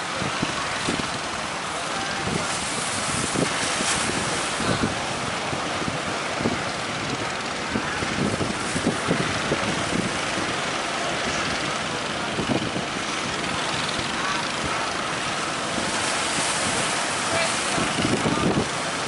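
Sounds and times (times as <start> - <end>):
surf breaking: 0.0 - 19.0
wind buffeting microphone: 0.0 - 19.0.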